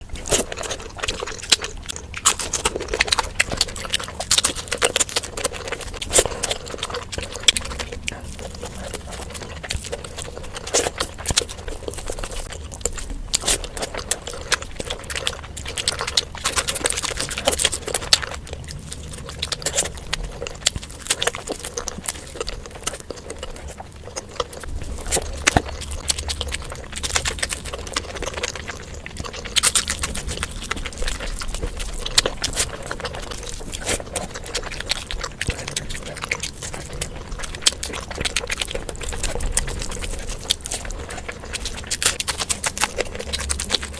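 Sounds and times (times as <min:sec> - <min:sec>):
wet chewing and mouth smacking: 0:00.0 - 0:43.9.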